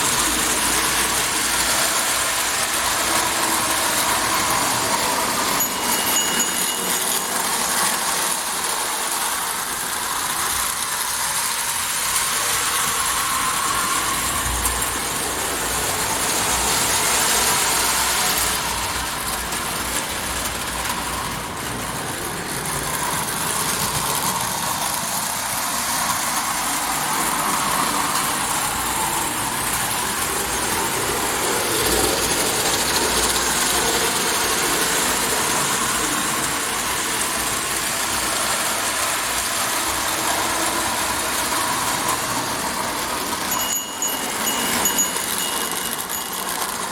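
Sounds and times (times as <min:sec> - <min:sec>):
toy train motor whir: 0:00.0 - 0:46.9
wheels clattering on rails: 0:00.0 - 0:46.9.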